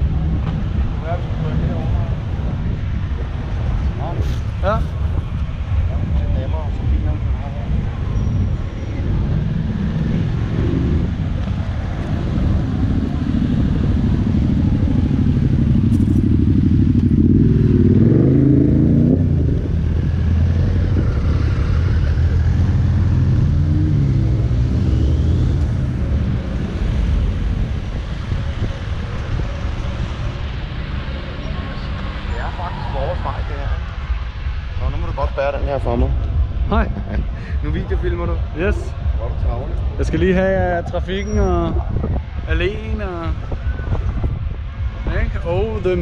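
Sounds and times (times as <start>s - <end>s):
motorcycle revving and passing: 0.0s - 46.0s
traffic engines: 0.0s - 46.0s.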